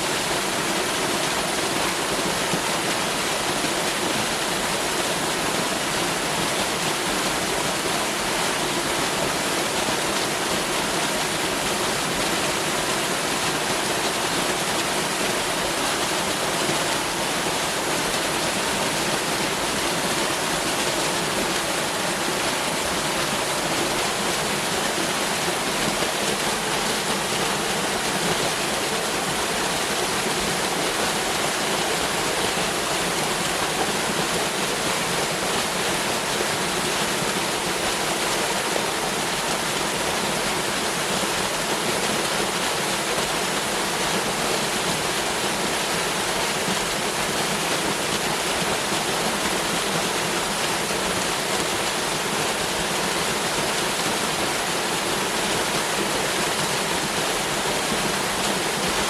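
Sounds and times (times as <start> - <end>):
waterfall pouring and splashing: 0.0 - 59.0.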